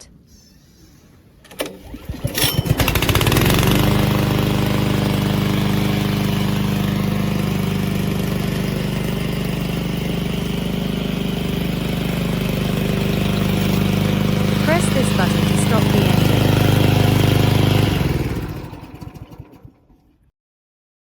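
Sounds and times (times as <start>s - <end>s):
lawn mower engine running: 1.4s - 20.1s.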